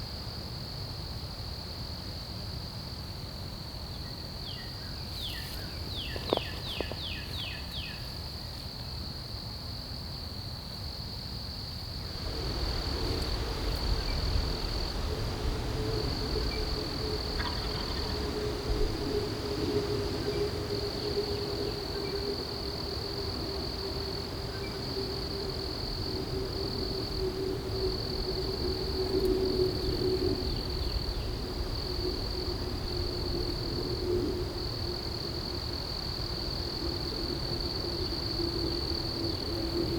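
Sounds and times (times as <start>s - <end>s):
insect trill: 3.6s - 39.9s.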